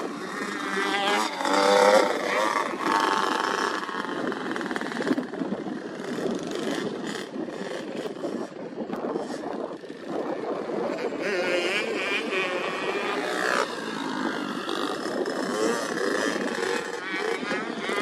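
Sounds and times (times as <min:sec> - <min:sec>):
motocross engines revving: 0:00.0 - 0:18.0.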